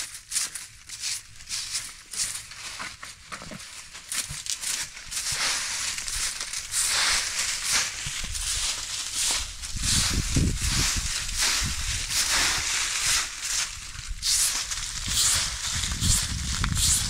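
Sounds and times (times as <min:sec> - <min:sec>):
broom sweeping leaves and grit: 0:00.0 - 0:17.0.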